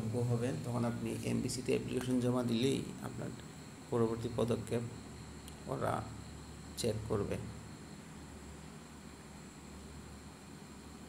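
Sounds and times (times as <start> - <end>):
thin high whine: 0.0 - 11.0.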